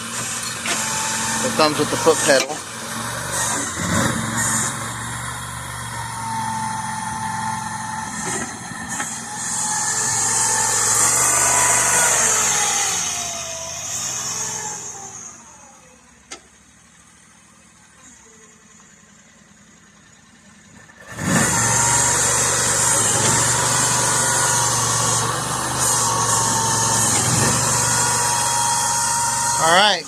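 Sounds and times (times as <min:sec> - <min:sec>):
hydraulic whine: 0:00.0 - 0:16.5, 0:20.7 - 0:30.0
excavator engine running: 0:00.0 - 0:30.0.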